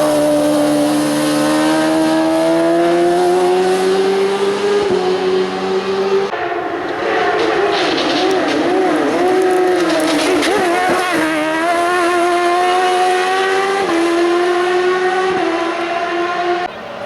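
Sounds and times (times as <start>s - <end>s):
race car engine at high revs: 0.0s - 17.0s.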